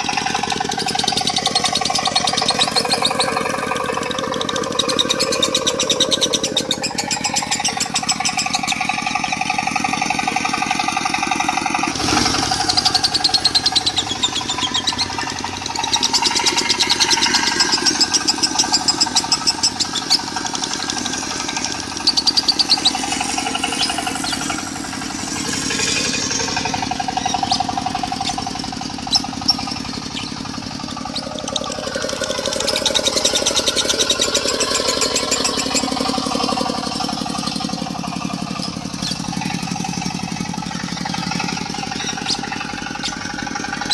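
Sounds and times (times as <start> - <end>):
diesel engine chugging: 0.0 - 43.9
lovebird chattering: 0.6 - 10.4, 12.4 - 43.9.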